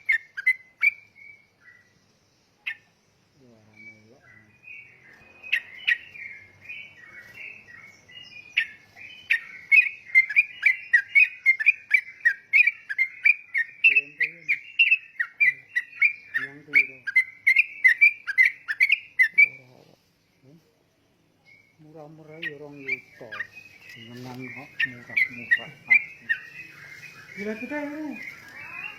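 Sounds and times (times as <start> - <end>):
bulbul chattering song: 0.0 - 28.9.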